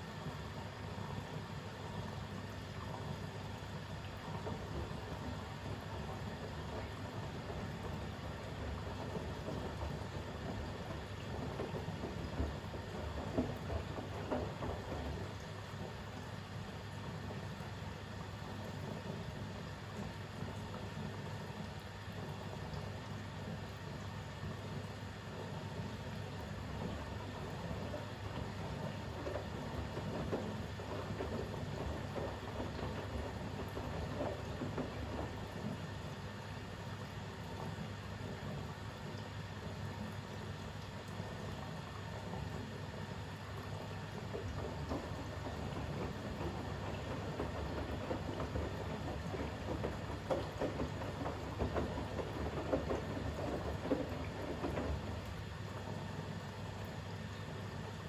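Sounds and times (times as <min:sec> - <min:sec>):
washing machine drum sloshing: 0:00.0 - 0:58.0.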